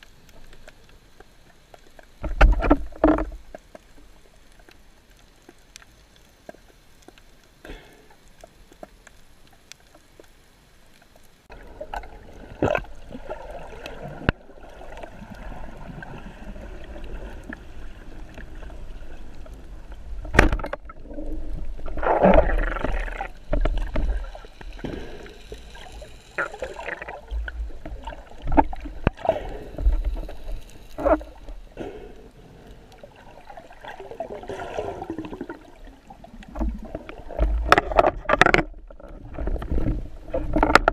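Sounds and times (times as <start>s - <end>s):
muffled underwater rushing water: 0.0s - 40.9s.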